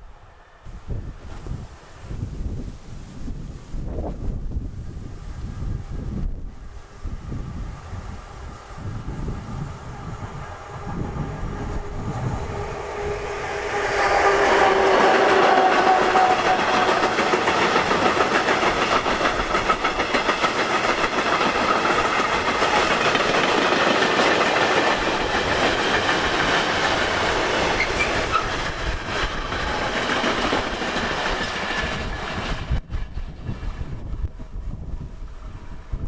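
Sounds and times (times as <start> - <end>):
train wheels on rails: 3.3 - 36.0.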